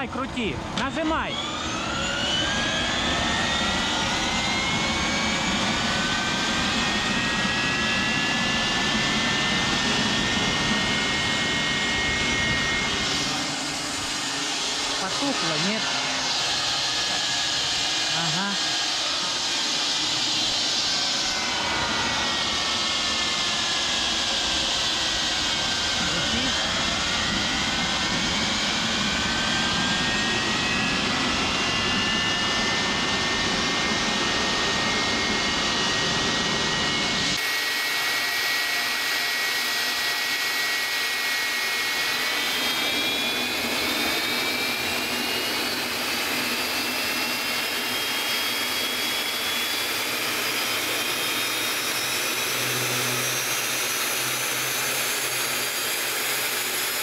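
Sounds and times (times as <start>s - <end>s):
turbine engine roar with high whine: 0.0s - 57.0s.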